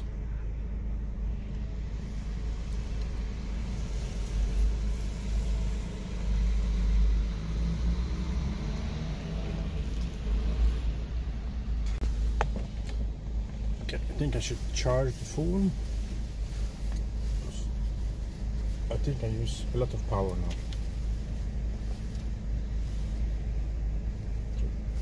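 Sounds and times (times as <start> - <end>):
bus engine rumble passing: 0.0 - 25.0.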